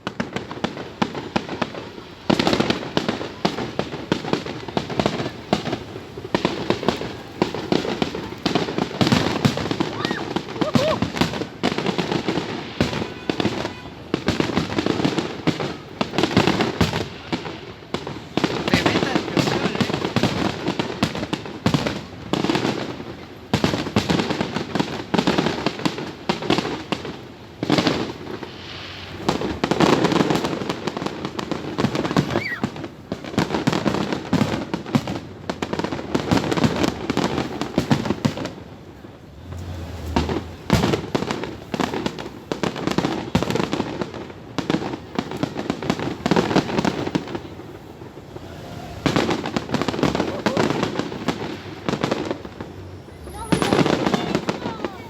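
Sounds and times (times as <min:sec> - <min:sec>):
fireworks bangs and crackling pops: 0:00.0 - 0:55.0.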